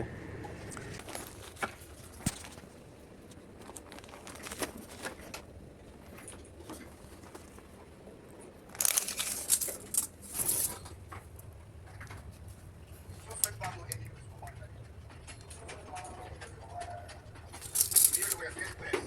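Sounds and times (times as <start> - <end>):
material crinkling and rustling: 0.8 - 14.1, 15.2 - 19.0.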